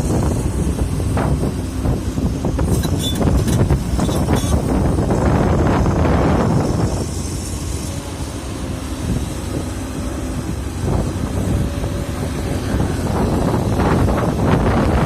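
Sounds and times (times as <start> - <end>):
excavator engine running: 0.0 - 15.0
wind noise on microphone: 0.0 - 15.0.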